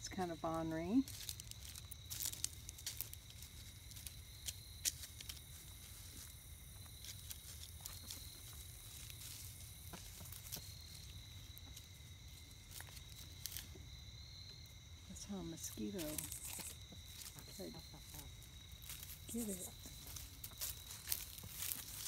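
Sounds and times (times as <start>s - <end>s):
hens scratching in dry leaves: 0.0s - 22.0s.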